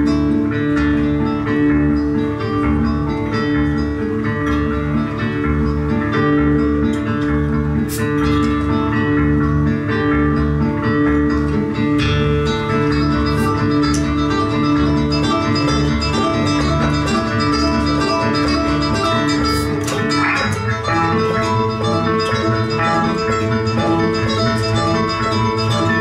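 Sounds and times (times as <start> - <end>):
acoustic guitar picking melody: 0.0 - 26.0
held electric guitar notes: 0.0 - 26.0.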